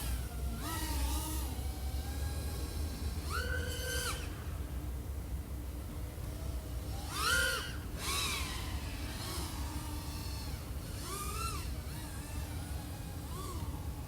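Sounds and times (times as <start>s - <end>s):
quadcopter motors whining: 0.0s - 4.8s, 6.2s - 14.0s.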